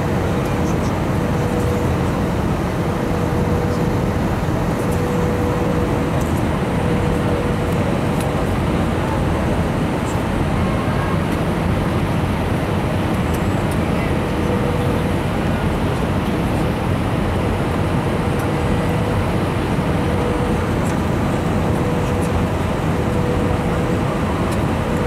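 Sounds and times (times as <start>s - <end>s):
airliner engines roaring: 0.0s - 25.0s.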